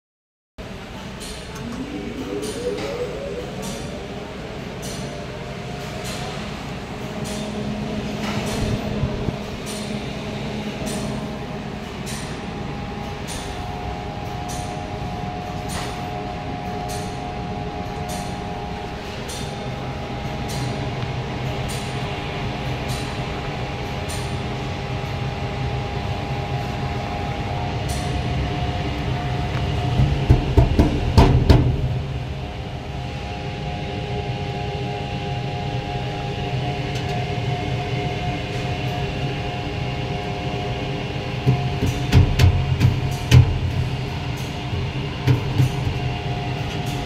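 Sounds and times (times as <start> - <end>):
exhaust fan whir and hum: 1.2 - 47.0.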